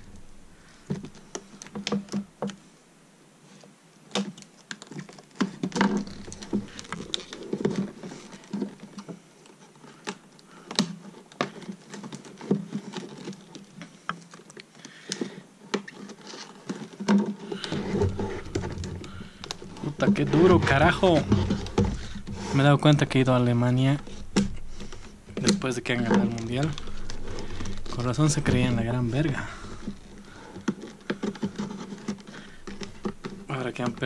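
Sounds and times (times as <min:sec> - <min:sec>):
plastic packaging crackling: 0:04.1 - 0:34.0.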